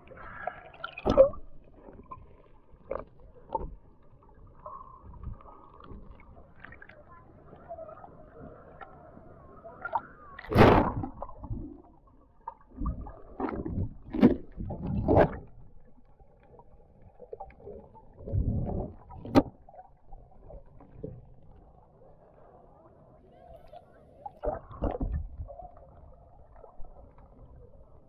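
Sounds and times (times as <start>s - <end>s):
muffled water splashing and gurgling: 0.0s - 28.0s.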